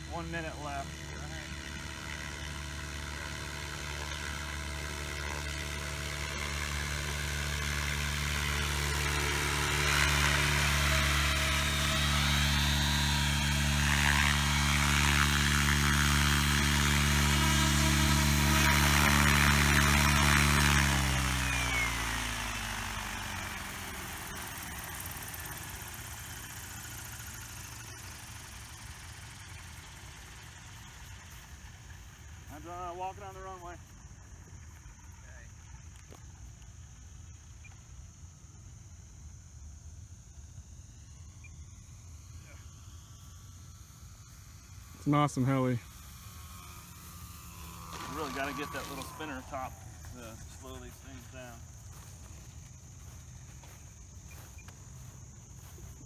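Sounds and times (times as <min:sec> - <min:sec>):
model helicopter rotors whining: 0:00.0 - 0:56.0.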